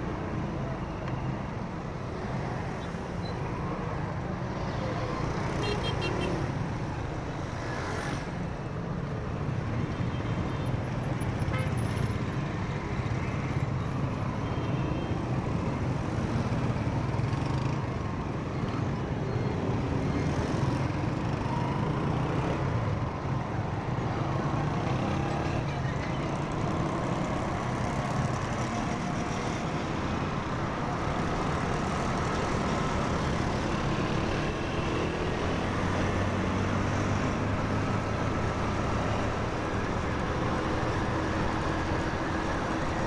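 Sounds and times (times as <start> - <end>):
road and traffic noise: 0.0 - 43.0.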